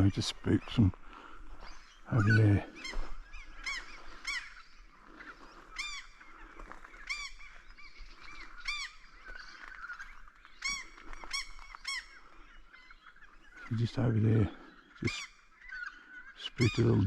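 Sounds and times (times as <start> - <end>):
bird honking calls: 0.0 - 17.0
faint bird chatter: 0.0 - 17.0.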